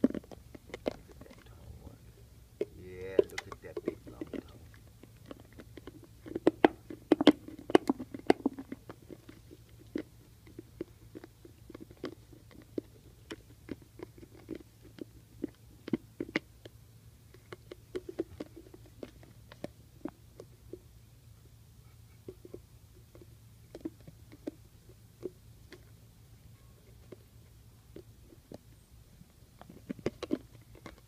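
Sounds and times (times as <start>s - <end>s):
puppy licking and gnawing plastic jar: 0.0s - 31.0s.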